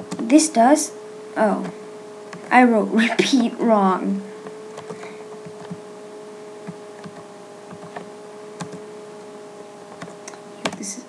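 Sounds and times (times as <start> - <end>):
computer hum: 0.0 - 11.0.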